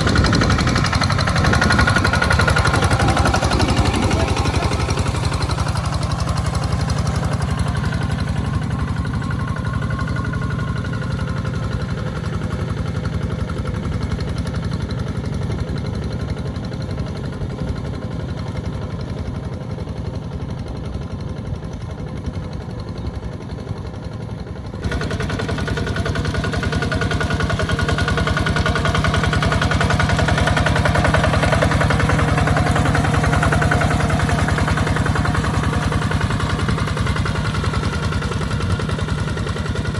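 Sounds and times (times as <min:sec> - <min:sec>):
walking tractor engine running: 0:00.0 - 0:39.9.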